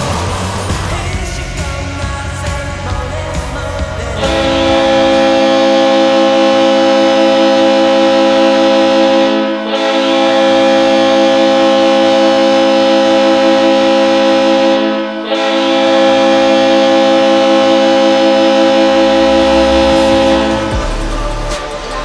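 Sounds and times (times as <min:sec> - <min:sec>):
goal horn air-horn chord: 0:03.1 - 0:22.0.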